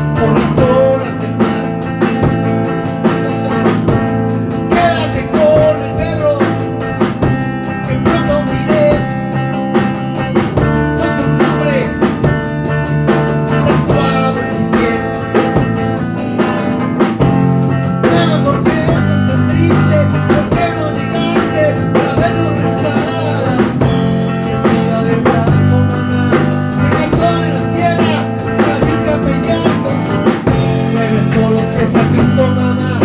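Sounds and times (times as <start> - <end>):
band music with guitar: 0.0 - 33.0
drum kit beat: 0.0 - 33.0.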